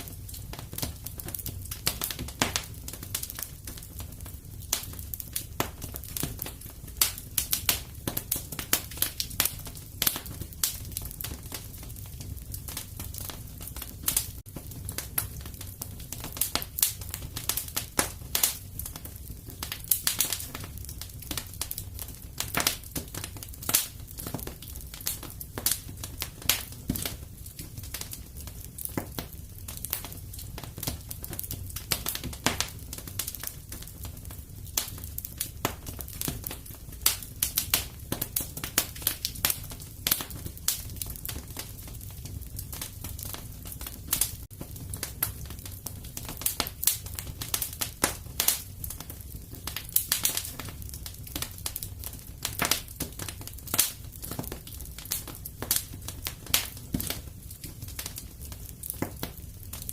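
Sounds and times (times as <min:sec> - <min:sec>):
low rumble of flames: 0:00.0 - 0:59.9
wood fire snaps and pops: 0:00.0 - 0:59.9.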